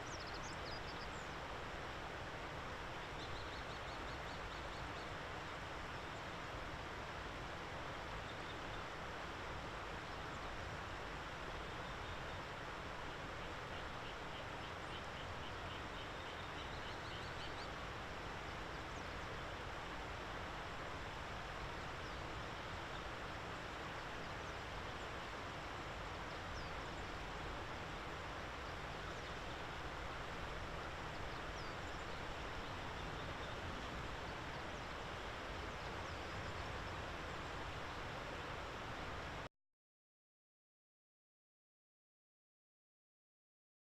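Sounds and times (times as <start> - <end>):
outdoor background hiss: 0.0 - 39.5.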